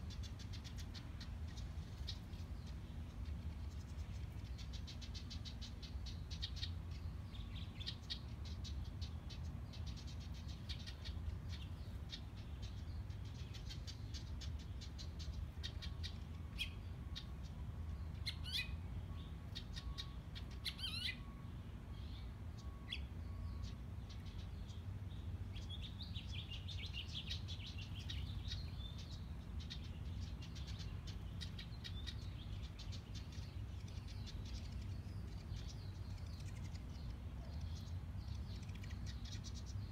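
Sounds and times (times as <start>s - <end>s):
wren chattering song: 0.0s - 39.9s.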